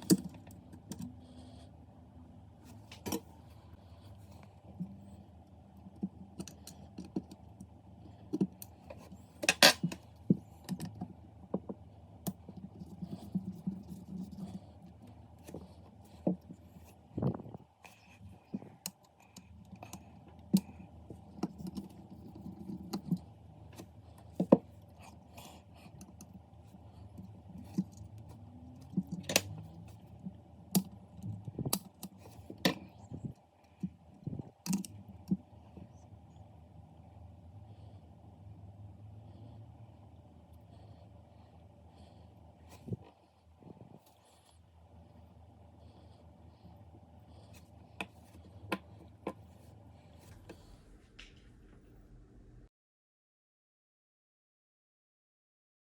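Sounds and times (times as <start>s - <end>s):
low steady hum: 0.0s - 52.7s.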